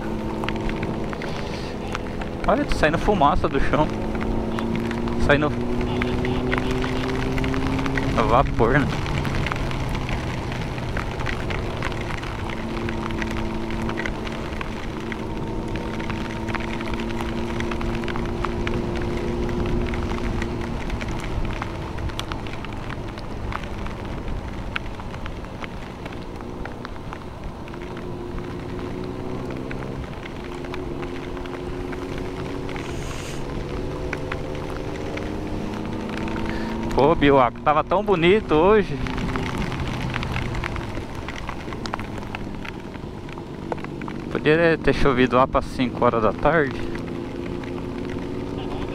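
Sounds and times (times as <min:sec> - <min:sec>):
motorcycle engine cruising: 0:00.0 - 0:48.9
raindrops ticking: 0:00.0 - 0:48.9
tyres hissing on wet road: 0:00.0 - 0:48.9.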